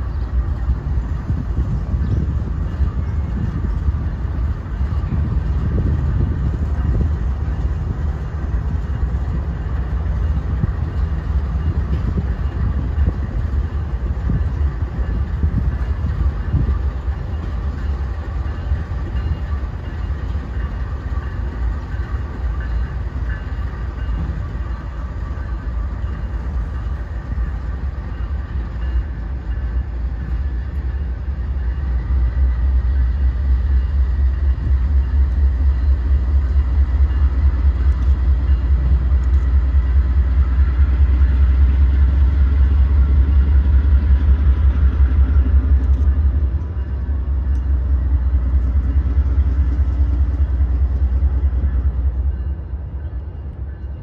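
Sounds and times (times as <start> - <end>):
locomotive engine rumble: 0.0 - 54.0.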